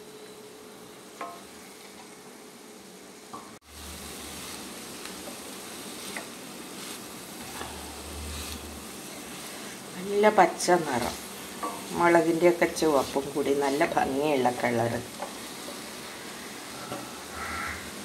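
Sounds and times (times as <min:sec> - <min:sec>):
beans sizzling in oil: 0:00.0 - 0:18.0.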